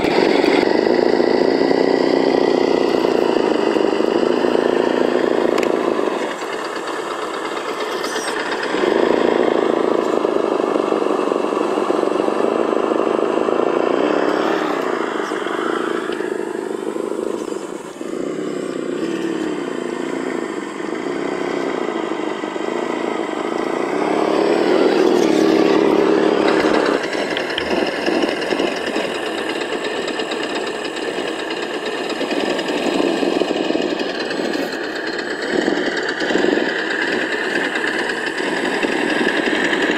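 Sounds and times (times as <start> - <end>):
simulated engine sound from speaker: 0.0 - 39.9.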